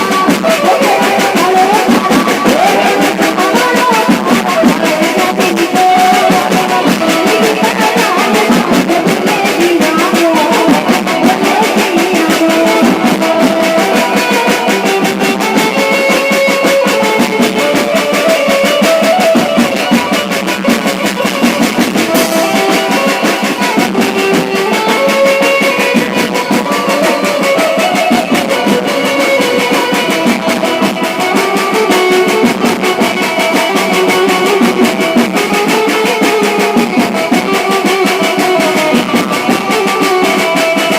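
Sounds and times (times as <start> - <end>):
loud dance music with drum beat: 0.0 - 40.9.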